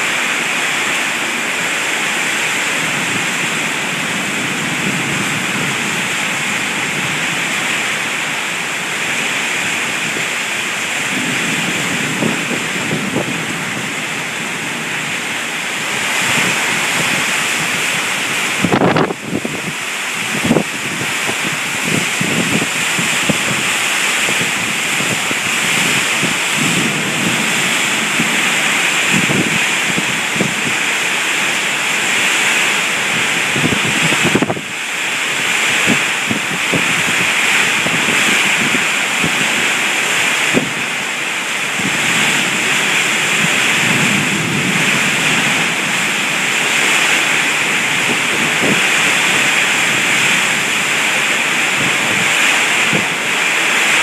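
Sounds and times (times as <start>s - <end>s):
heavy rain falling: 0.0s - 54.0s
raindrops splashing: 0.0s - 54.0s.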